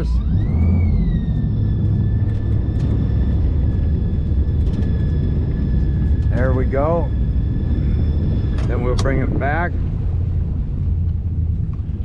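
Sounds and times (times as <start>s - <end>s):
boat engine revving: 0.0s - 12.0s.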